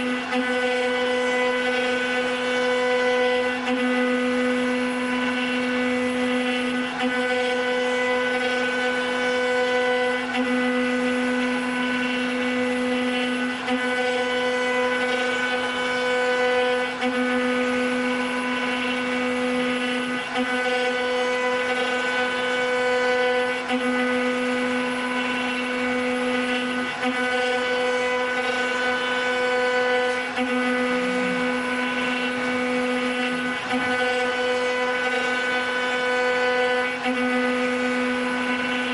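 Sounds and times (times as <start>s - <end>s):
router spindles humming: 0.0s - 38.9s.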